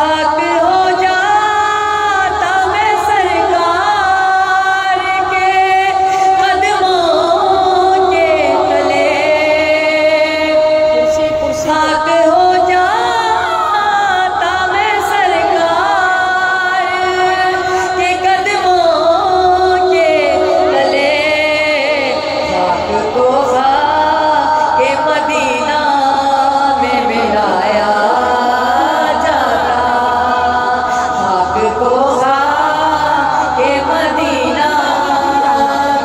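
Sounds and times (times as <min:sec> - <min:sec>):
woman singing into a microphone: 0:00.0 - 0:36.0.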